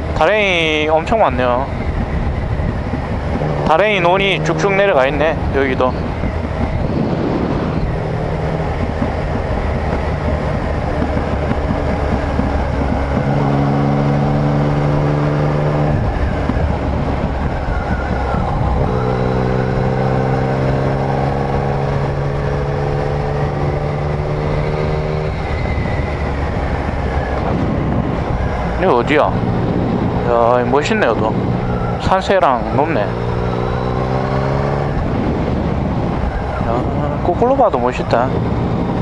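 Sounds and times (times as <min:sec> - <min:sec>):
motorcycle engine at road speed: 0:00.0 - 0:39.0.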